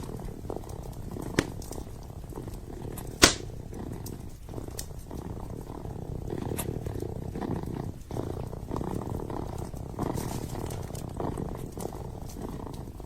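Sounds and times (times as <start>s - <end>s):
wood fire crackling: 0.0s - 5.7s, 7.7s - 13.0s
kitten purring: 0.0s - 13.0s.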